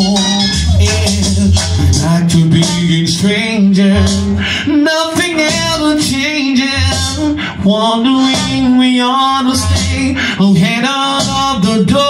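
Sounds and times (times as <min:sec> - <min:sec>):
deep bass line: 0:00.0 - 0:12.0
man singing into microphone: 0:00.0 - 0:12.0
reggae backing track: 0:00.0 - 0:12.0.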